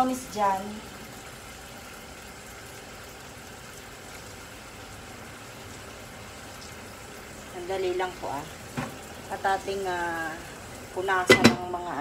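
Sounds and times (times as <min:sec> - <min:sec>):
beef sizzling in a pot: 0:00.0 - 0:12.0.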